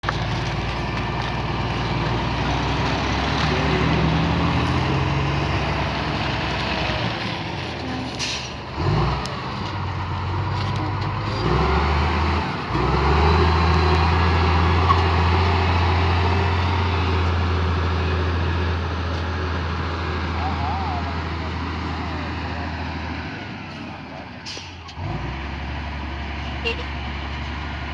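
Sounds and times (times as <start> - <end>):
heavy engine running: 0.0 - 27.9.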